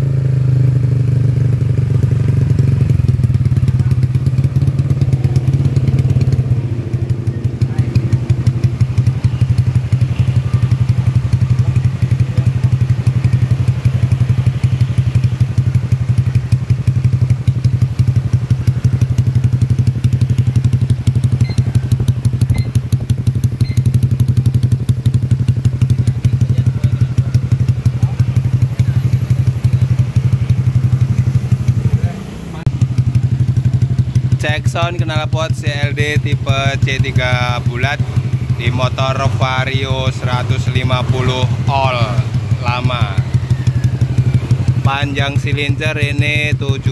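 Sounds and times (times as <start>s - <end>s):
scooter engine idling: 0.0s - 46.9s.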